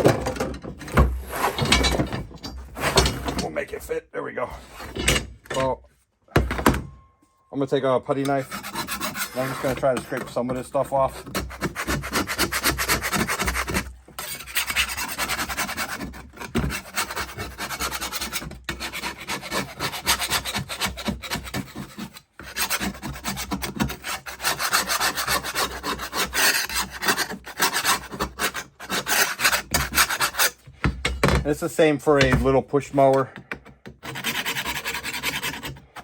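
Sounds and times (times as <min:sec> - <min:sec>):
putty knife scraping metal blade: 0:00.0 - 0:03.7, 0:04.6 - 0:05.8, 0:08.1 - 0:31.5, 0:32.1 - 0:36.0.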